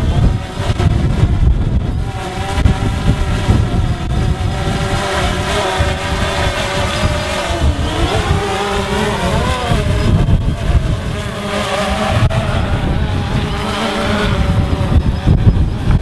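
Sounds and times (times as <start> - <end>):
quadcopter propellers whining: 0.0 - 16.0
wind buffeting microphone: 0.0 - 16.0.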